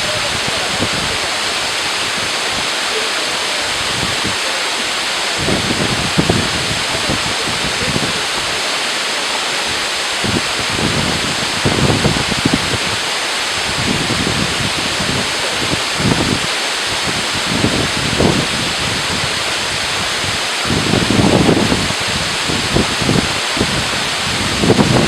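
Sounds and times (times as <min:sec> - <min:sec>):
wind buffeting microphone: 0:00.0 - 0:02.9, 0:03.6 - 0:08.7, 0:09.6 - 0:25.0
waterfall rushing: 0:00.0 - 0:25.0.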